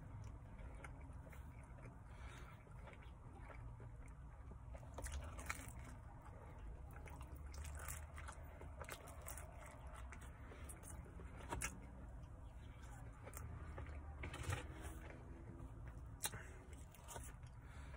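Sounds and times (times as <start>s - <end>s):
crunchy pizza crust chewing: 0.0s - 17.9s
low steady hum: 0.0s - 17.9s.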